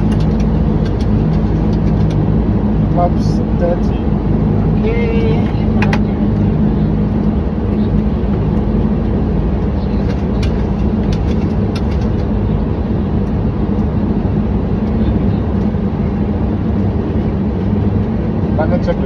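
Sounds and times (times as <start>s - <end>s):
airflow and engine noise: 0.0s - 19.0s
low steady hum: 0.0s - 19.0s.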